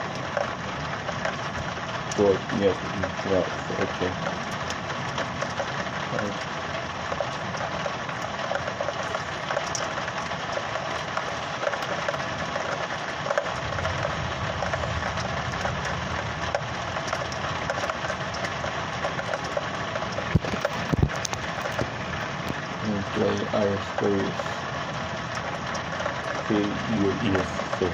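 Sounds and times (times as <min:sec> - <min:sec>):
heavy rain: 0:00.0 - 0:27.9
low rumble: 0:00.0 - 0:27.9.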